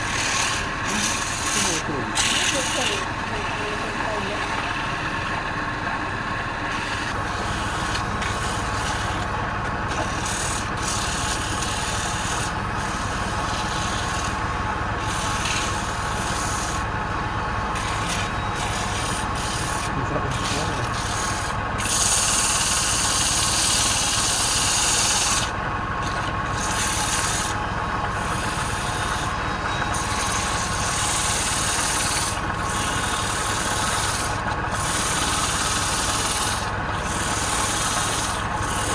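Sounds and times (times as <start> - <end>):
tool scraping spinning wood: 0.0 - 38.9
wood lathe hum: 0.0 - 38.9.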